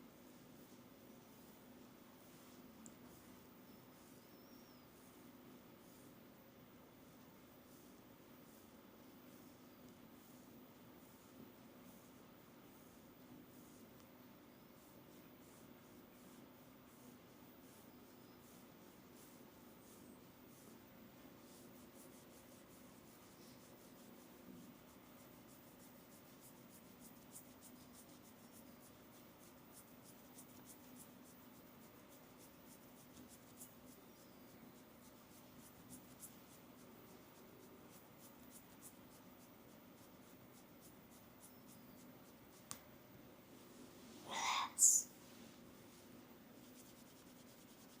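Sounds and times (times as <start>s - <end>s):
fingers rubbing hair: 0.1s - 42.9s, 44.0s - 48.0s.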